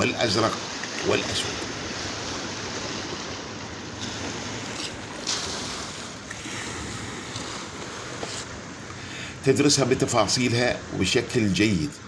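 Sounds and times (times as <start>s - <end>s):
sea waves washing on shore: 0.0s - 12.0s.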